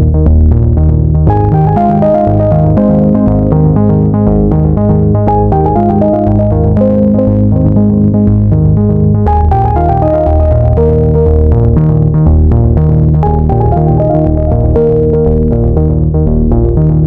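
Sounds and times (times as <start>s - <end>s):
electronic synthesizer music: 0.0s - 17.0s.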